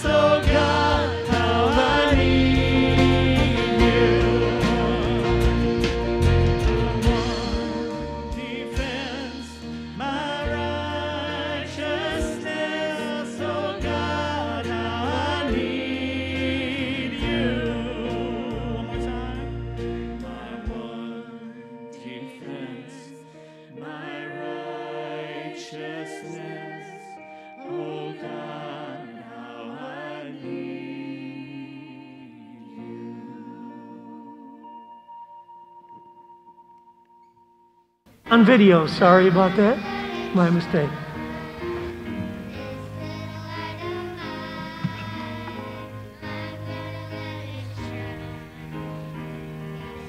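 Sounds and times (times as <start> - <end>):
worship band praise song: 0.0 - 34.9, 38.1 - 50.0.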